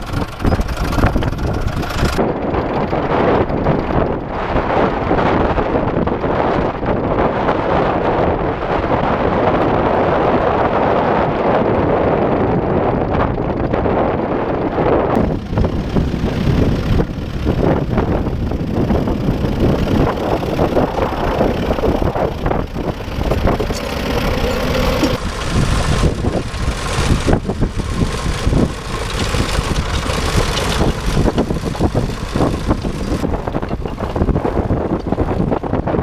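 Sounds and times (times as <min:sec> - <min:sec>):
tractor engine running: 0:00.0 - 0:10.0, 0:12.1 - 0:36.0
wind buffeting microphone: 0:00.0 - 0:36.0.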